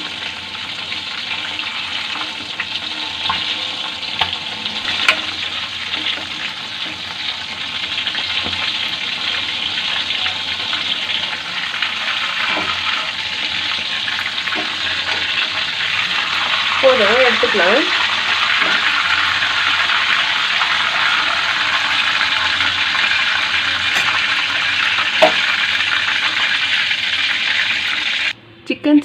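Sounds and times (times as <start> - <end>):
chicken deep-frying in oil: 0.0 - 28.4.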